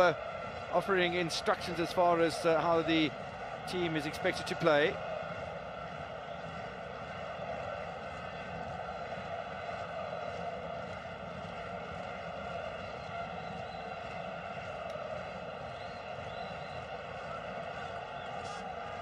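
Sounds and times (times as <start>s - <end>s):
stadium crowd droning: 0.0s - 19.0s.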